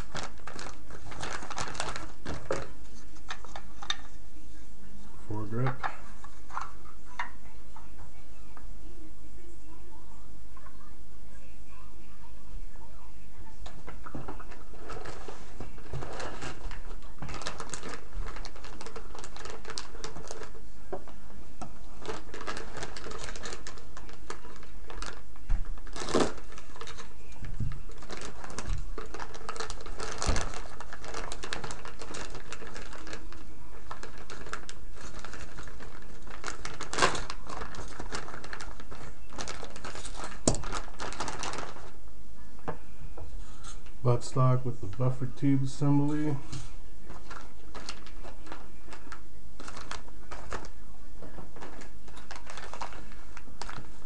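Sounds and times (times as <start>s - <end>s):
plastic packaging crinkling: 0.0s - 4.3s, 13.0s - 54.0s.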